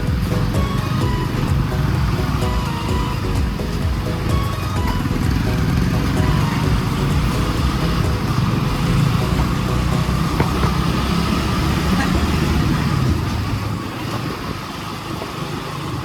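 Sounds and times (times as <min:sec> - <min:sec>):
vehicle road noise rumble: 0:00.0 - 0:16.0.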